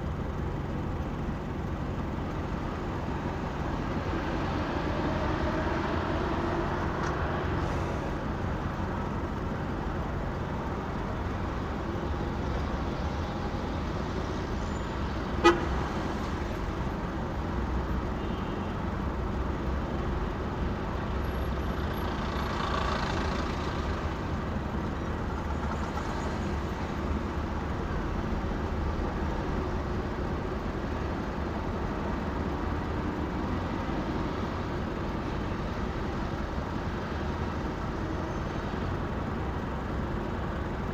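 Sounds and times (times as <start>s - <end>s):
vehicle road and engine noise: 0.0s - 40.9s.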